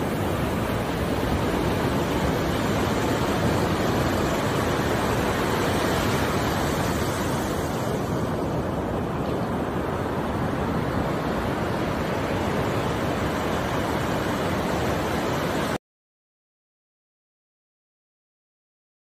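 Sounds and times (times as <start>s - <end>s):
ocean surf washing on beach: 0.0s - 15.8s.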